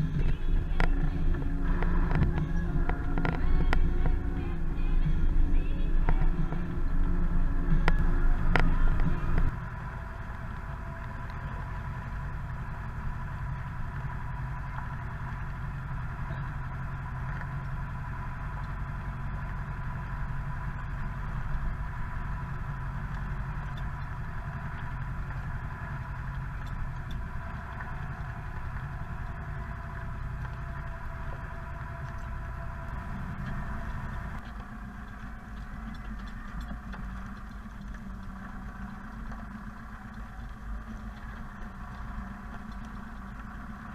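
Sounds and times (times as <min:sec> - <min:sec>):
thin steady whine: 0:00.0 - 0:43.9
tractor diesel engine running: 0:00.0 - 0:43.9.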